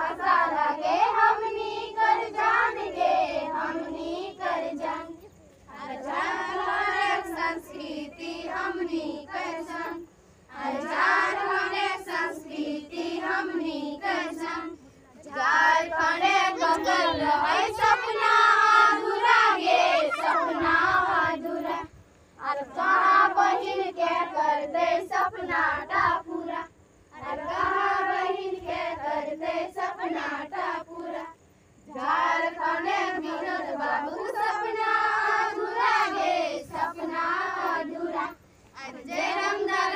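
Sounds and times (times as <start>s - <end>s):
girls singing unaccompanied: 0.0s - 39.9s.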